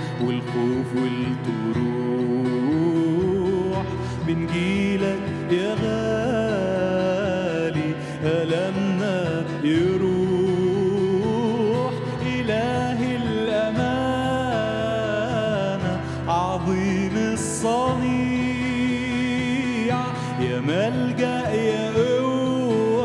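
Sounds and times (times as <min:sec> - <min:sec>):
man singing worship song: 0:00.0 - 0:23.0
strummed acoustic guitar: 0:00.0 - 0:23.0.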